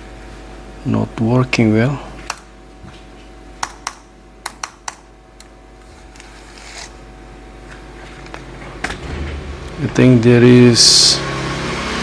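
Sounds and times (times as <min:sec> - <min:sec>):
faint hum: 0:00.0 - 0:11.4.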